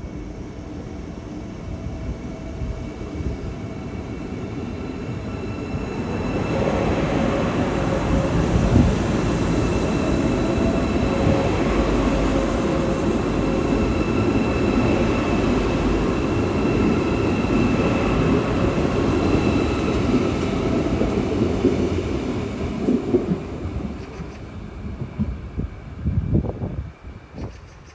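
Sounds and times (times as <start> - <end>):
train rumbling on rails: 0.0 - 27.9.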